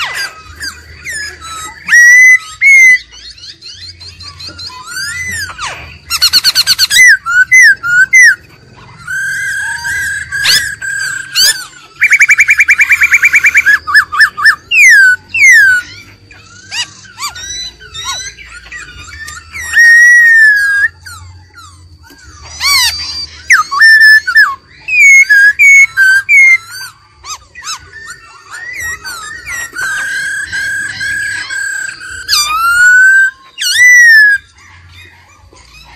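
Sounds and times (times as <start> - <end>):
bird singing whistled phrases: 0.0 - 35.9.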